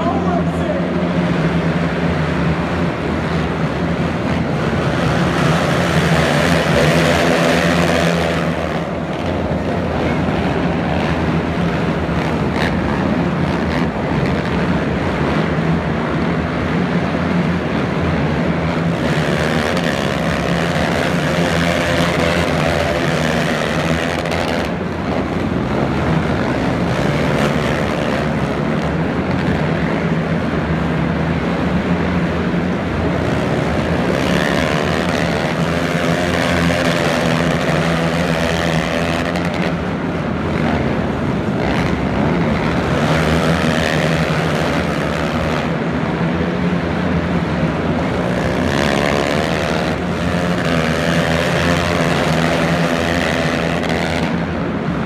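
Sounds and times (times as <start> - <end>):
racing quad engines: 0.0 - 55.0.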